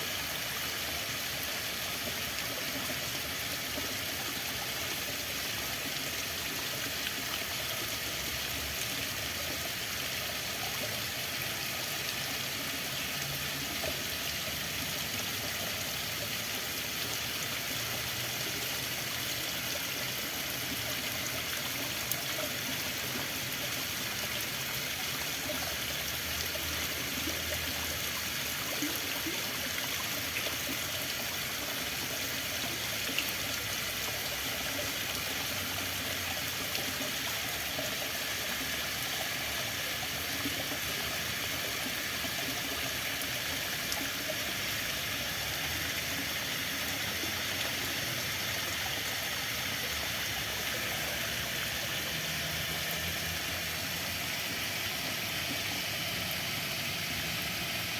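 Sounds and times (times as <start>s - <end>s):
running water rushing: 0.0s - 57.9s.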